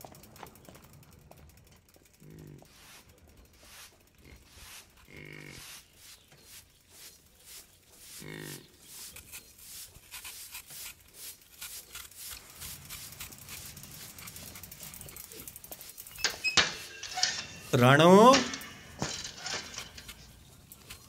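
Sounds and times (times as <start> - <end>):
broom scratching over dirt: 2.6 - 21.0.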